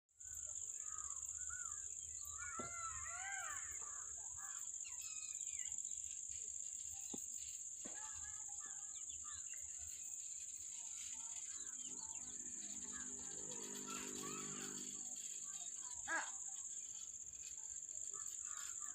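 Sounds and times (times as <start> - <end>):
birds chirping: 0.2 - 18.9
high-pitched insect drone: 0.2 - 18.9.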